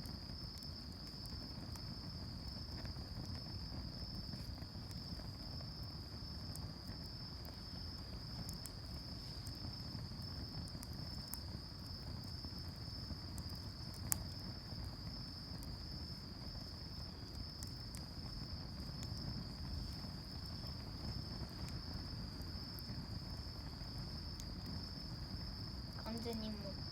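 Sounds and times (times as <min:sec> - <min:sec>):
campfire crackling and popping: 0:00.0 - 0:26.9
crickets trilling: 0:00.0 - 0:26.9.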